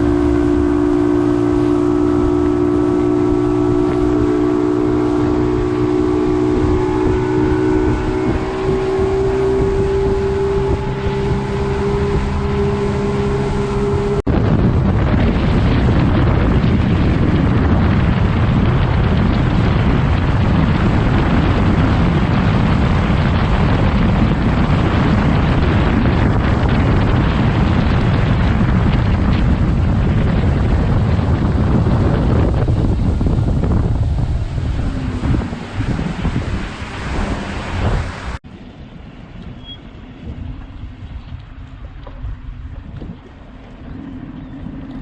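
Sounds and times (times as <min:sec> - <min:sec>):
outboard motor droning: 0:00.0 - 0:45.0
wind noise on microphone: 0:00.0 - 0:45.0.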